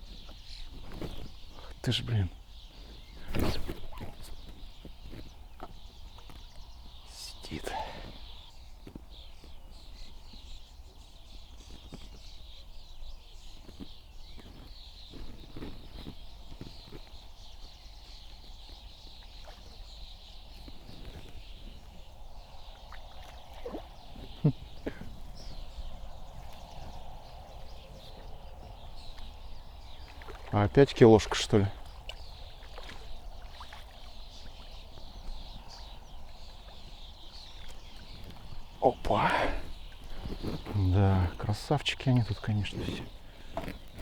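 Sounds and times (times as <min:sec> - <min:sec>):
birds singing: 0:00.0 - 0:44.0.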